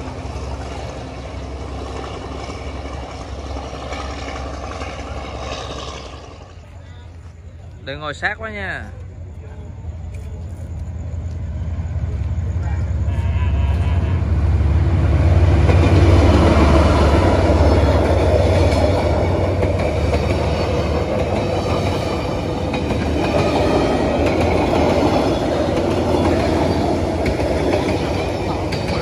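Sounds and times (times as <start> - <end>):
deep locomotive rumble: 0.0 - 29.0
train wheel noise and rattle: 0.0 - 29.0.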